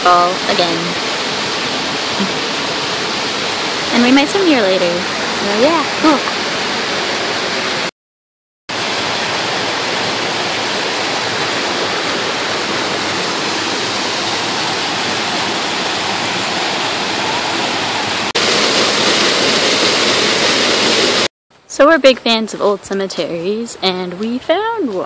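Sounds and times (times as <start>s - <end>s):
waterfall rushing: 0.0s - 7.9s, 8.7s - 21.3s.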